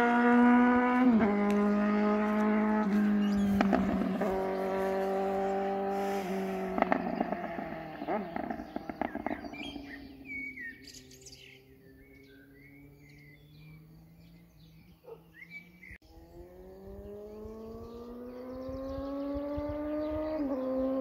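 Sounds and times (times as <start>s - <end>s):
birds chirping: 0.0s - 21.0s
motorcycle engine accelerating: 0.0s - 21.0s.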